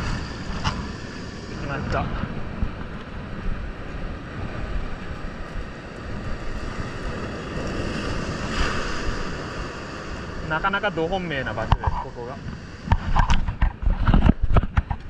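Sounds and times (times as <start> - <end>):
big wave crashing: 0.0 - 14.1
surf breaking over rocks: 0.0 - 15.0
wind buffeting microphone: 0.0 - 15.0.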